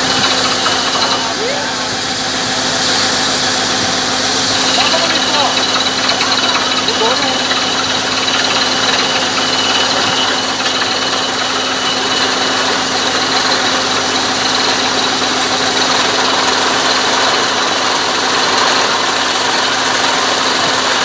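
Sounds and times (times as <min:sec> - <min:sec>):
drilling rig engine running: 0:00.0 - 0:21.0.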